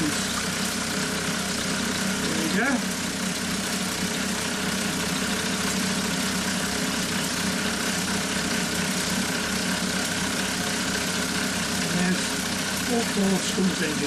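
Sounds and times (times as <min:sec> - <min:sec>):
model steam engines hissing and whirring: 0:00.0 - 0:14.0.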